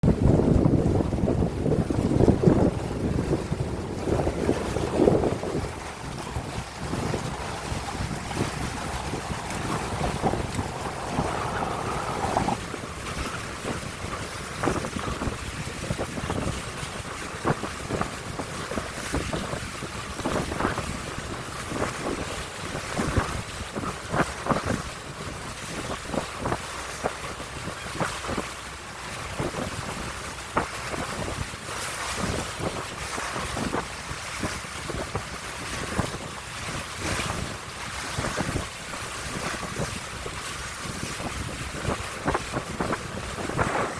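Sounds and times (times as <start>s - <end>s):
water splashing against hull: 0.0s - 43.9s
wind buffeting microphone: 0.0s - 43.9s.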